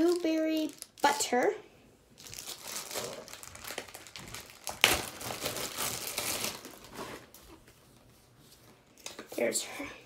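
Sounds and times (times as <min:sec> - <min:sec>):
plastic wrap crinkling: 0:00.0 - 0:08.1.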